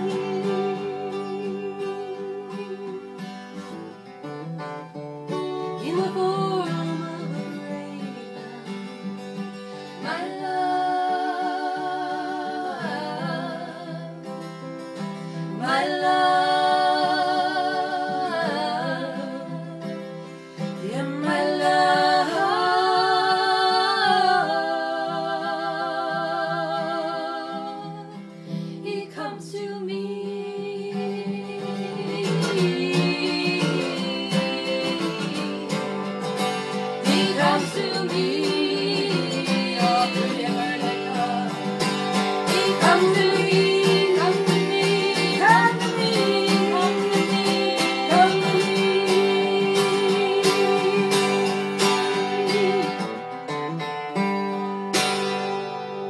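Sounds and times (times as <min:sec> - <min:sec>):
women singing: 0:00.0 - 0:03.7, 0:05.6 - 0:53.3
strummed acoustic guitar: 0:00.0 - 0:56.0.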